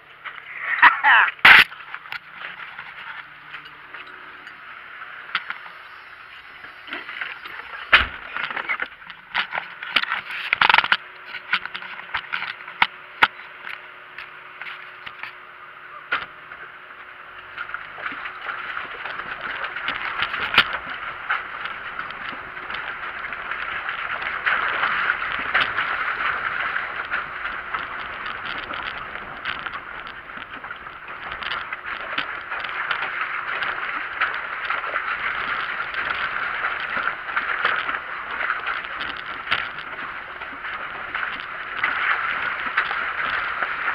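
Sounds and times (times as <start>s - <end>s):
vehicle rumbling over rocky dirt: 0.0s - 43.9s.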